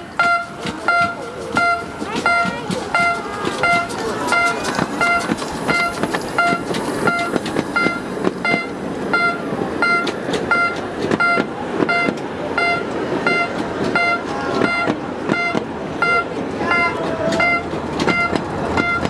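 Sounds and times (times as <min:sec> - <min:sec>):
level-crossing warning bell: 0:00.0 - 0:19.0
train wheels rumbling and rattling: 0:00.0 - 0:19.0.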